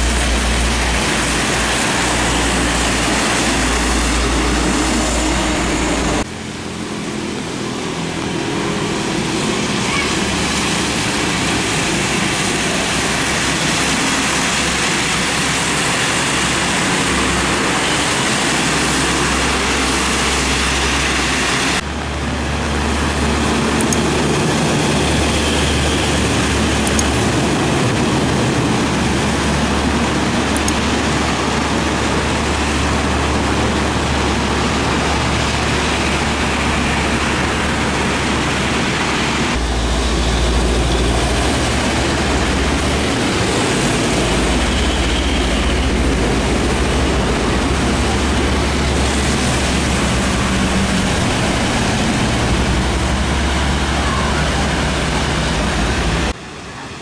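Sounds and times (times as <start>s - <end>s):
rain and tyre spray hiss: 0.0s - 57.0s
trucks driving past: 0.0s - 57.0s.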